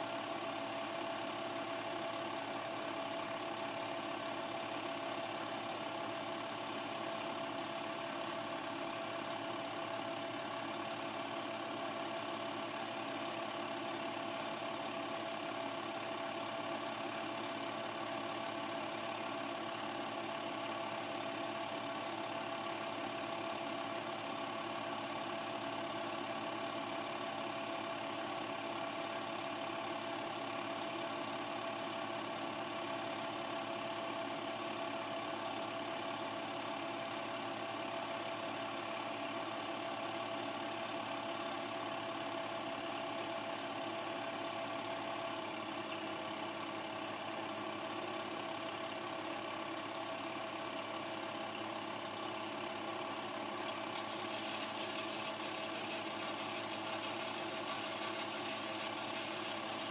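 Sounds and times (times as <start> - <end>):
film projector whirring: 0.2 - 59.9.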